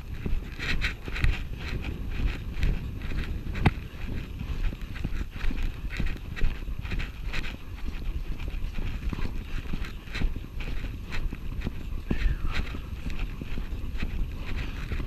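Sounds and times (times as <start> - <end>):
horse hoofbeats on grass: 0.0 - 15.0
wind rumble on microphone: 0.0 - 15.0.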